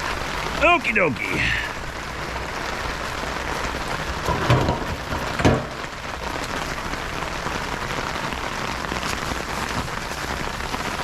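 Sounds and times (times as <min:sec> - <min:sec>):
freezing rain pattering: 0:00.0 - 0:11.0.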